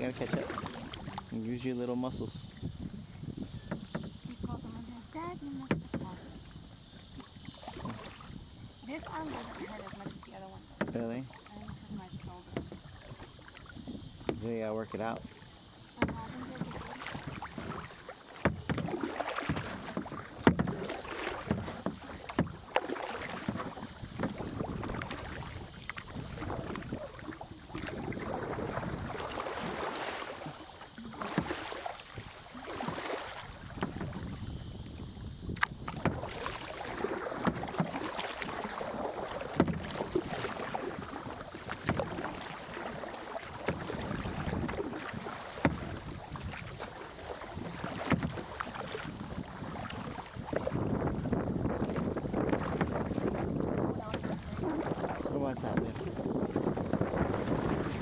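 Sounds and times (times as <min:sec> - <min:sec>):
paddle splashing in water: 0:00.0 - 0:58.0.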